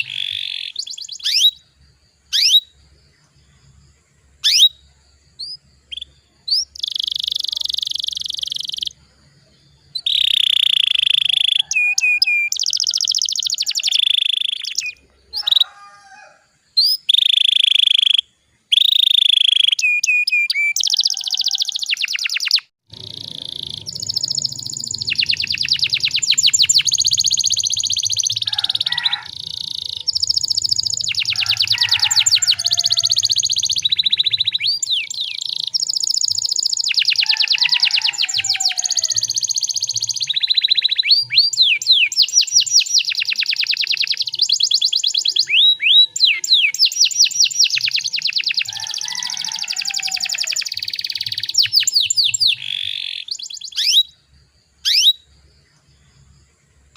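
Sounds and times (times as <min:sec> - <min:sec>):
canary singing trills: 0:00.0 - 0:56.3.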